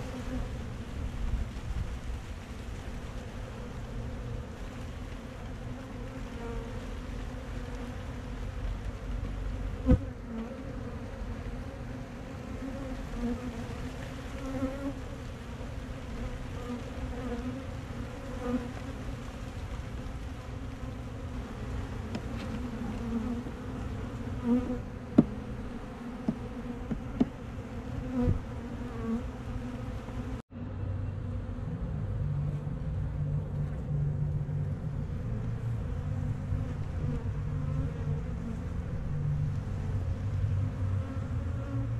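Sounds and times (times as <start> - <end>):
bees buzzing: 2.3 - 31.6, 33.8 - 41.9.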